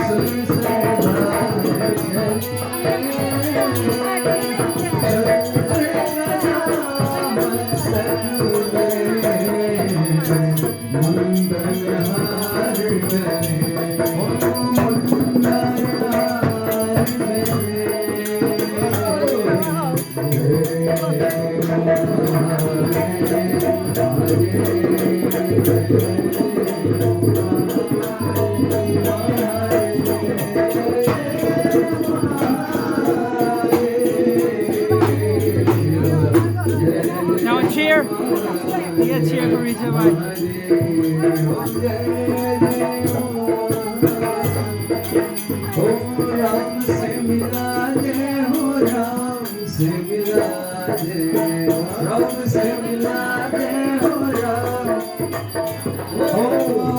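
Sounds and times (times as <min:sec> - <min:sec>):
rhythmic hand percussion: 0:00.0 - 0:56.9
voices singing a hymn: 0:00.0 - 0:56.9.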